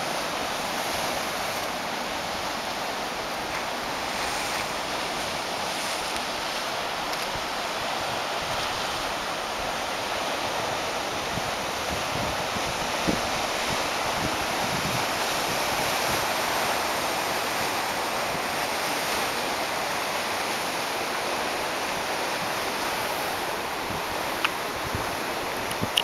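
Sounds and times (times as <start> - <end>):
wind on microphone: 4.1 - 26.0.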